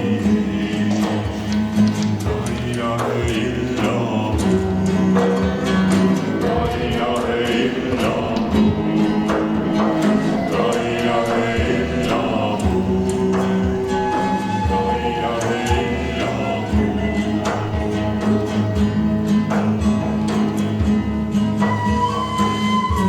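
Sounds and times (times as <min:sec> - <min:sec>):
steady low drone: 0:00.0 - 0:21.0
music with singing: 0:00.0 - 0:23.0.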